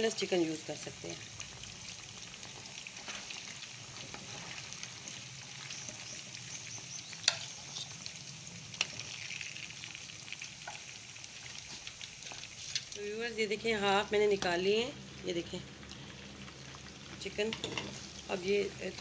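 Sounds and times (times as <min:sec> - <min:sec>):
chicken deep-frying in hot oil: 0:00.0 - 0:19.0.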